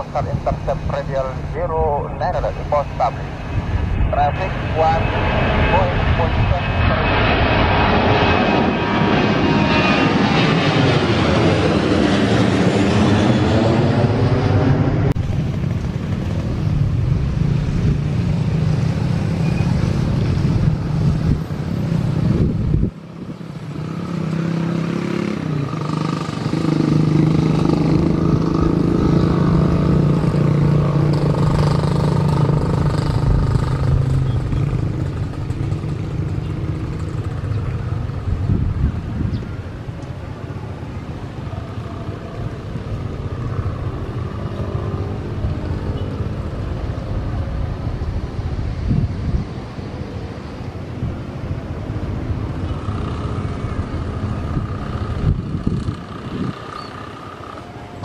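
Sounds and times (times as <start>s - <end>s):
jet airliner climbing overhead: 0.0s - 58.0s
jet engine hum on approach: 0.0s - 58.0s.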